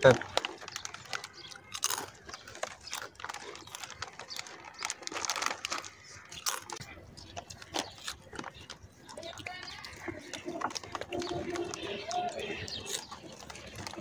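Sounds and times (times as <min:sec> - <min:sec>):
chewing crunchy snacks: 0:00.0 - 0:14.0
foil snack packet crinkling: 0:00.0 - 0:14.0.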